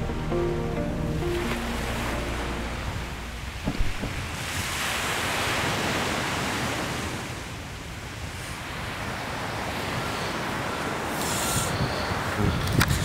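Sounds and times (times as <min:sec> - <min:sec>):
small waves breaking on sand: 0:01.4 - 0:12.4.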